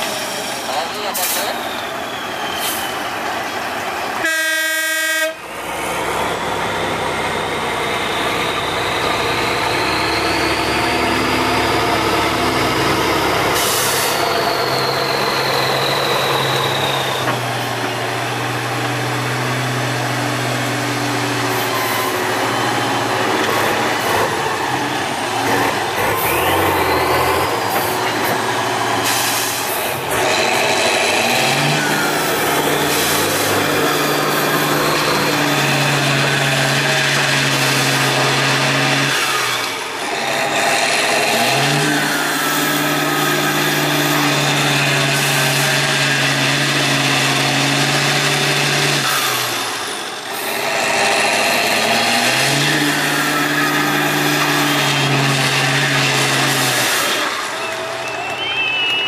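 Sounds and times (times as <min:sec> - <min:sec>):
truck diesel engine revving hard: 0:00.0 - 0:59.0.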